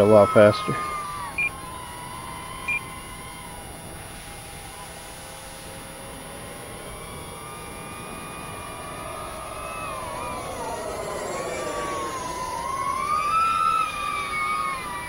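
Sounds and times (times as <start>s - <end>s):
rc aircraft motors whining: 0.0s - 15.0s.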